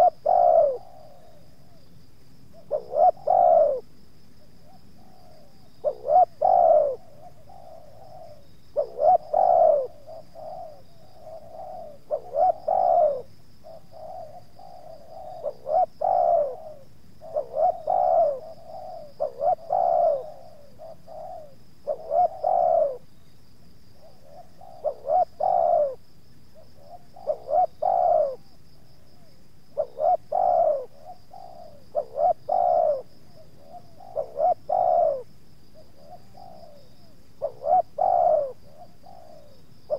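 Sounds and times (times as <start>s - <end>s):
dove cooing: 0.0s - 1.9s, 2.5s - 23.2s, 24.0s - 26.0s, 26.6s - 39.9s.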